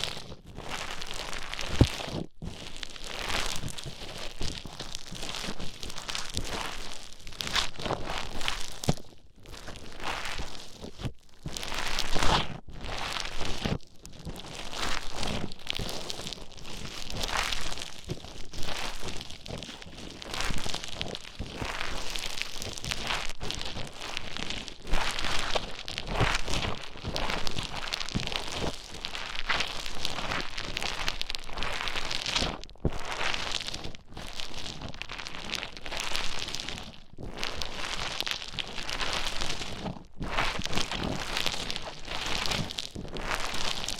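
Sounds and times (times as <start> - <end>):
foam being squished and stirred: 0.0 - 43.9.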